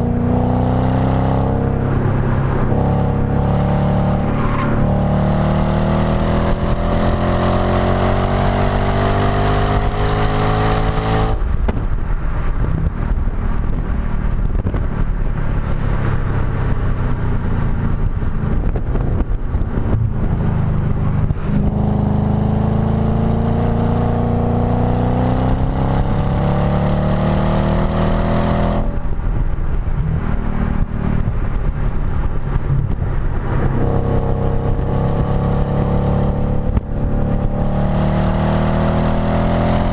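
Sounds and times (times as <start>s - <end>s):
car engine revving: 0.0s - 11.8s, 17.7s - 39.9s.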